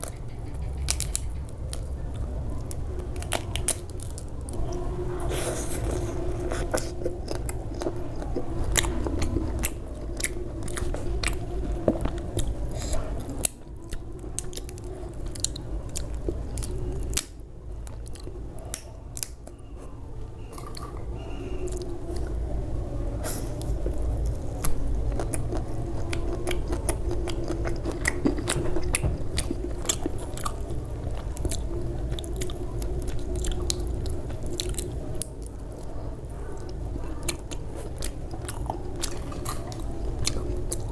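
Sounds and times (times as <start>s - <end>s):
person chewing crunchy food: 0.0s - 22.4s, 23.2s - 40.9s.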